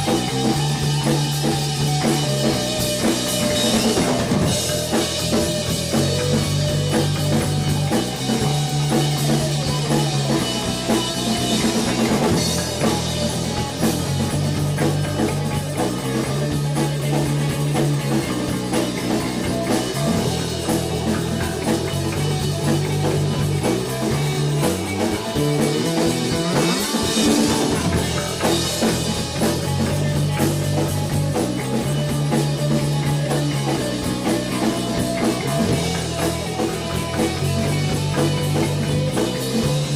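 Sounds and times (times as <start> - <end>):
bass line of held low notes: 0.0 - 39.9
drum kit: 0.0 - 39.9
electric guitar: 0.0 - 39.9.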